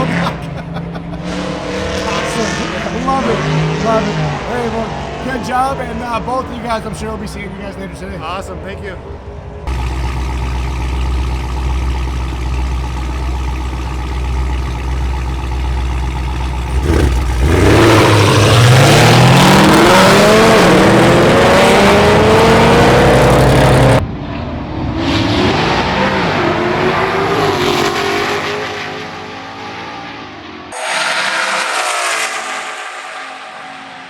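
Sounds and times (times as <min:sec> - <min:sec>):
race car engines accelerating: 0:00.0 - 0:08.0, 0:09.7 - 0:24.0, 0:24.9 - 0:34.0.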